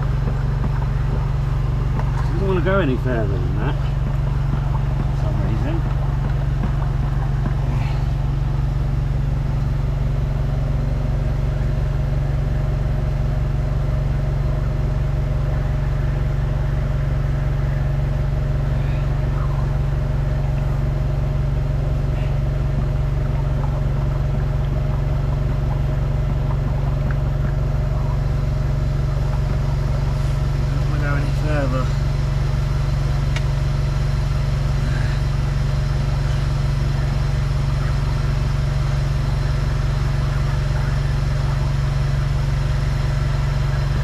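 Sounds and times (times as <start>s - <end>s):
drain jetting machine engine droning: 0.0s - 44.0s.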